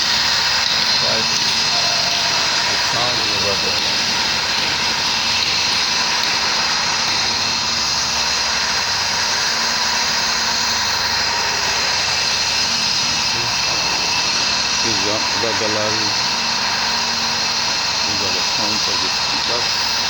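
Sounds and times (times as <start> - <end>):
mechanical drone with held tones: 0.0 - 20.0
rushing noise: 0.0 - 20.0.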